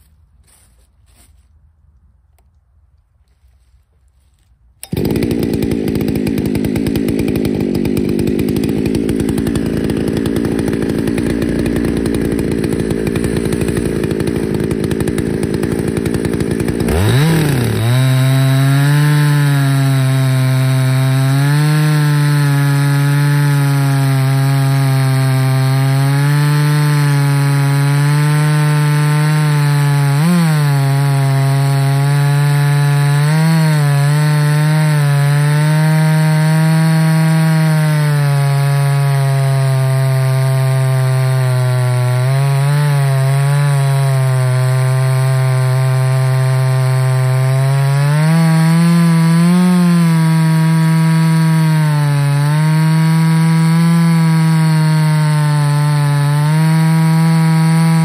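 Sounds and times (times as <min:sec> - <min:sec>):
chainsaw cutting log: 0:00.0 - 0:01.6, 0:03.3 - 0:58.0.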